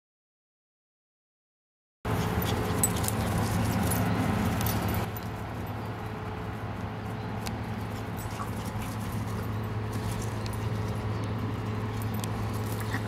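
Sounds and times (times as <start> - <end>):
puppies scuffling: 2.1 - 13.0.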